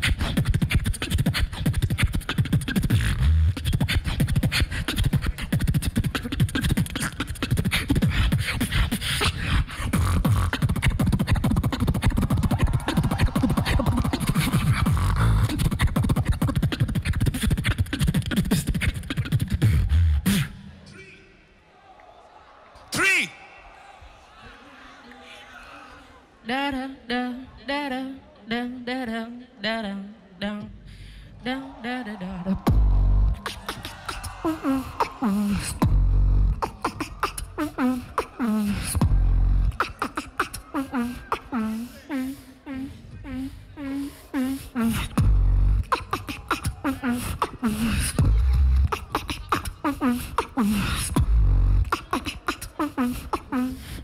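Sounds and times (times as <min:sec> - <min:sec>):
beatboxing into microphone: 0:00.0 - 0:20.9, 0:31.4 - 0:54.0.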